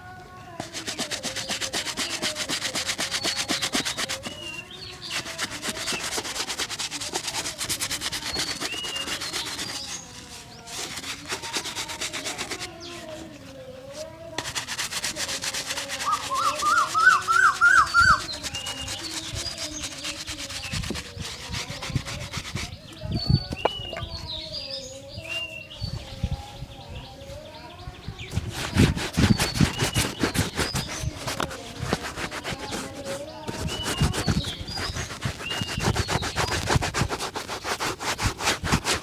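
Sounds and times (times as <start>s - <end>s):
brush scrubbing leather shoe: 0.6s - 24.3s, 28.3s - 39.0s.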